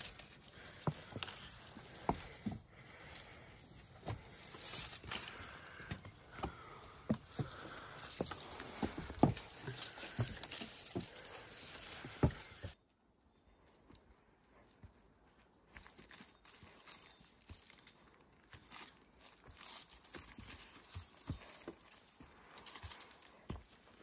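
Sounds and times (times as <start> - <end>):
footsteps on a trail: 0.0 - 12.8, 13.5 - 24.0.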